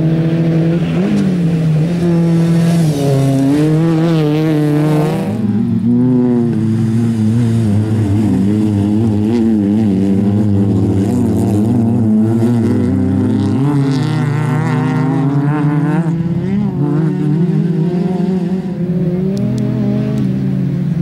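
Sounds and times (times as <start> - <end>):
racing car engine at high revs: 0.0 - 21.0
second racing car engine: 0.0 - 21.0.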